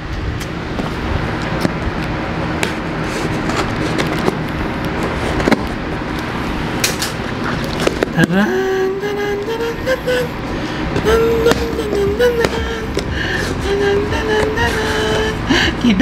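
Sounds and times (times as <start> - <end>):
rising tone: 0.0 - 15.6
steady background rumble: 0.0 - 16.0.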